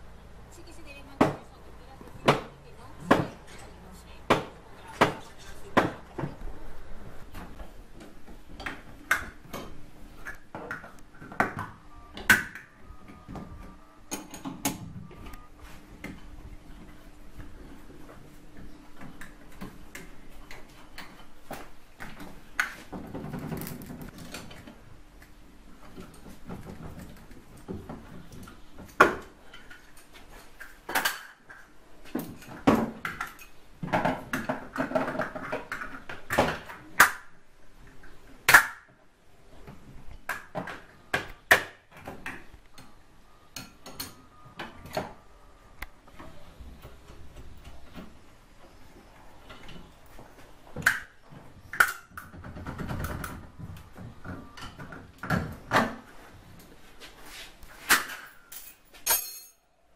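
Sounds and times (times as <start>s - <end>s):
handling and scraping noises: 0.6s - 37.1s, 43.6s - 59.7s.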